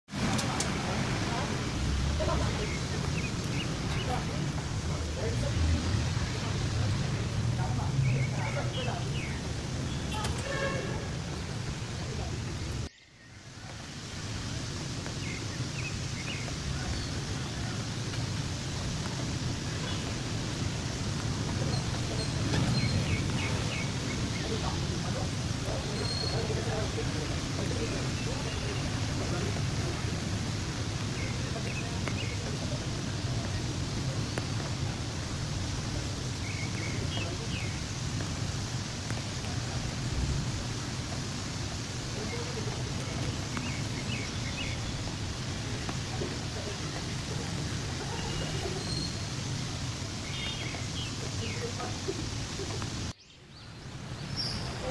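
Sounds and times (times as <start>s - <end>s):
outdoor ambient hiss: 0.1s - 54.9s
birds chirping: 0.2s - 38.2s, 38.8s - 54.9s.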